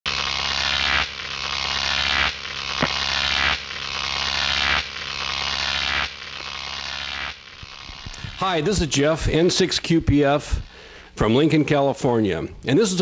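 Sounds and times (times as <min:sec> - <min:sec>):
harsh electronic buzz: 0:00.1 - 0:12.2.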